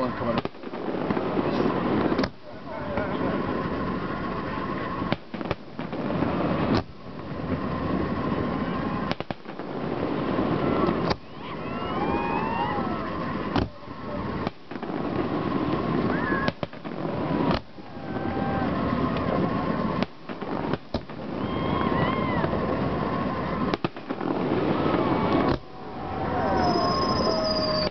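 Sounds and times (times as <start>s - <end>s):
fireworks bursting: 0.0s - 27.9s.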